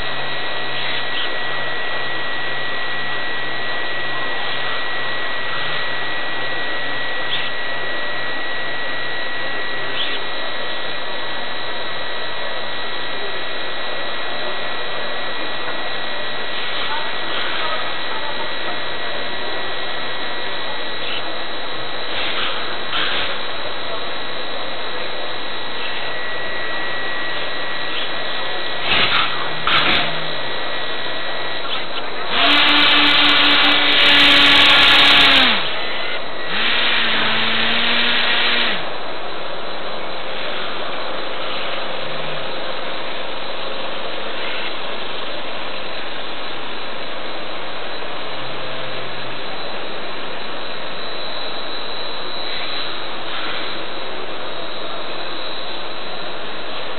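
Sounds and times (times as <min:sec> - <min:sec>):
propeller motors whirring: 0:00.0 - 0:56.9
steady hiss: 0:00.0 - 0:56.9.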